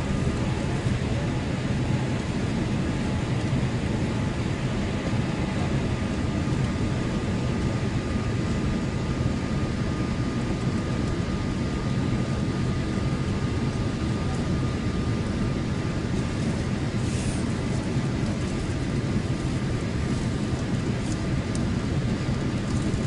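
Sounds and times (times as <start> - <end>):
airplane cabin engine roar: 0.0 - 23.0
faint steady whine: 0.0 - 23.0.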